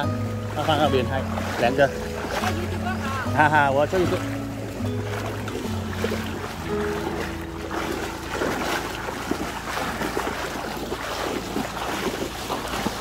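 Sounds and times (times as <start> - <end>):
wading through water splashing: 0.0 - 13.0.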